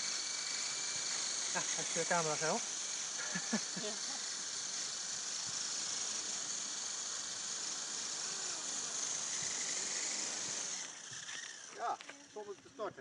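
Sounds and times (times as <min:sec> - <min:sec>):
model helicopter whirring: 0:00.0 - 0:13.0.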